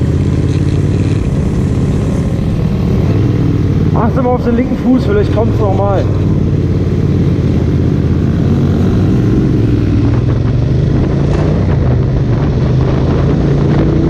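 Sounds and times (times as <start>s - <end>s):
motorcycle engine droning: 0.0s - 14.0s
wind noise: 0.0s - 14.0s.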